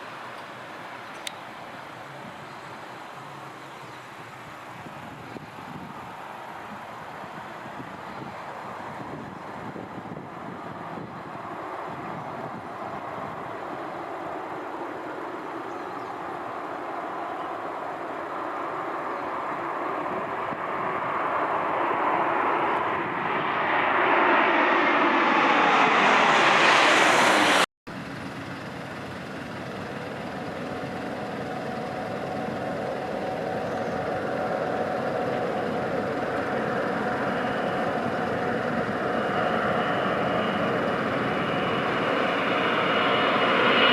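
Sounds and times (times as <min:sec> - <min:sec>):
airliner engine noise: 0:00.0 - 0:43.9
approaching aircraft whine: 0:00.0 - 0:43.9.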